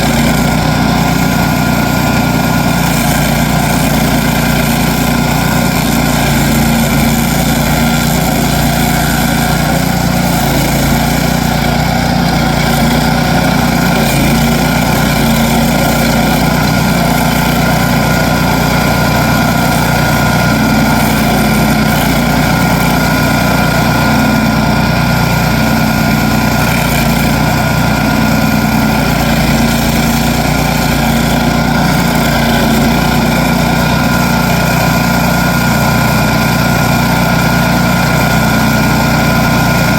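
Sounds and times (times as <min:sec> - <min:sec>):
petrol engine running loud: 0:00.0 - 0:39.9.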